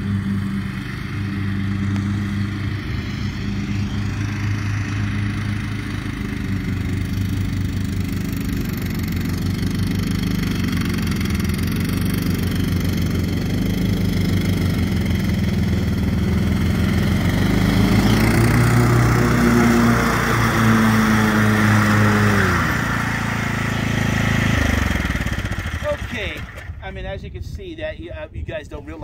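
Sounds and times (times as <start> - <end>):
riding lawn mower engine running: 0.0 - 27.2.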